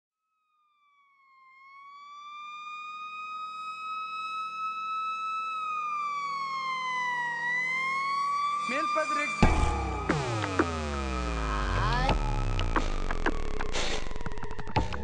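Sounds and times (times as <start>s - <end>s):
siren wailing: 1.1s - 15.0s.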